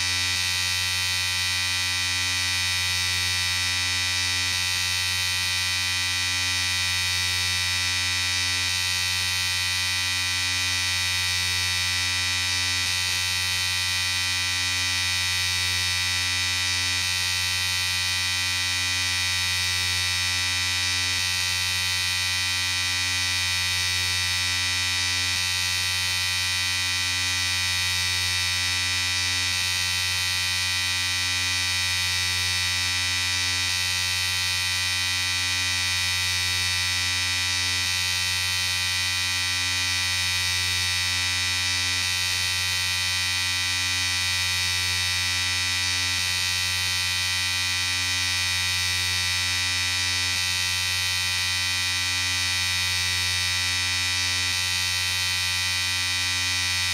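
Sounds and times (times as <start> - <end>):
electric shaver buzzing: 0.0 - 56.9.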